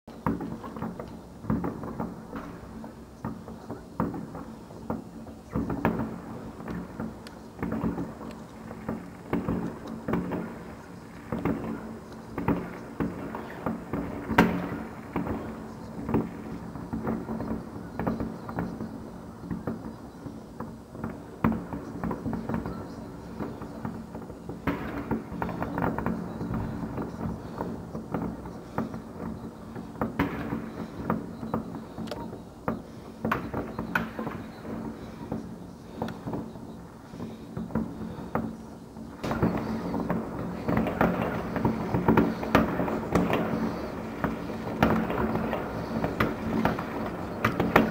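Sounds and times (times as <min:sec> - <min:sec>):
fireworks bangs and crackles: 0:00.1 - 0:47.9.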